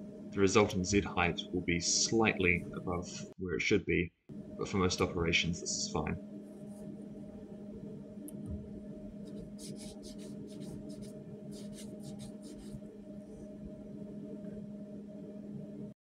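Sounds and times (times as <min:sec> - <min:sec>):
low electrical machine hum: 0:00.0 - 0:16.0.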